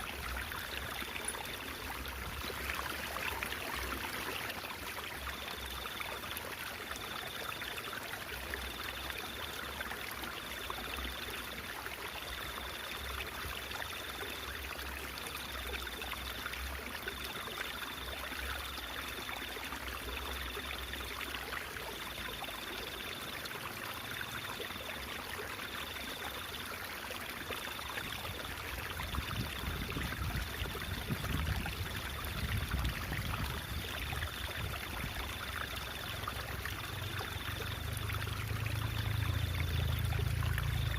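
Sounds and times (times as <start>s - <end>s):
stream babbling and trickling: 0.0s - 40.9s.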